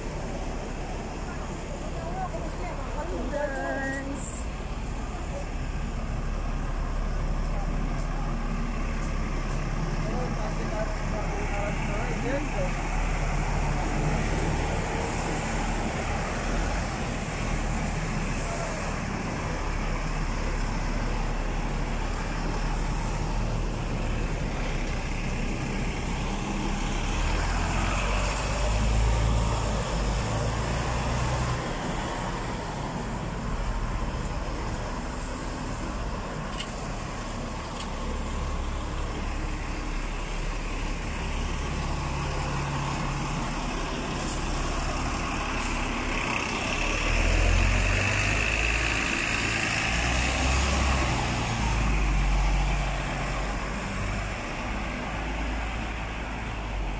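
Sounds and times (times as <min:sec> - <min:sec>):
buses and cars driving: 0:00.0 - 0:56.9.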